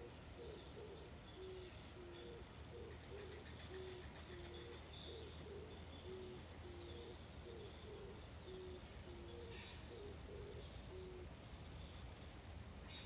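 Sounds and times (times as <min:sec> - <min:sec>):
dove cooing: 0:00.0 - 0:11.4
faint high hiss: 0:00.0 - 0:13.0.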